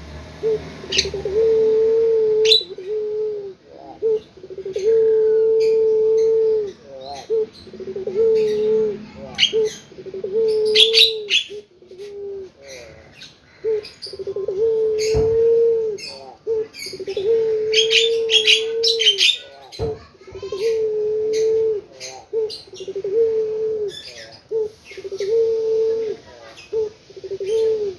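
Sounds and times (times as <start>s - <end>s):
small birds chirping: 0.0s - 1.6s, 2.4s - 27.9s
dove cooing: 0.0s - 27.9s.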